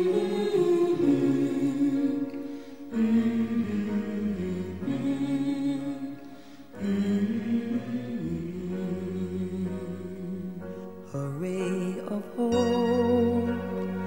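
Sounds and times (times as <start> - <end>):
slow vocal music: 0.0 - 14.0.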